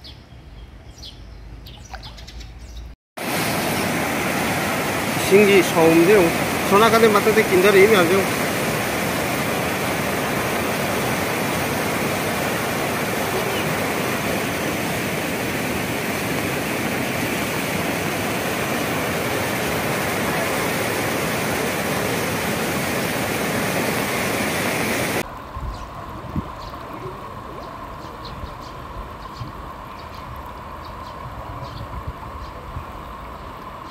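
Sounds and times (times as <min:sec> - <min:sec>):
floodwater rushing: 0:03.2 - 0:33.9.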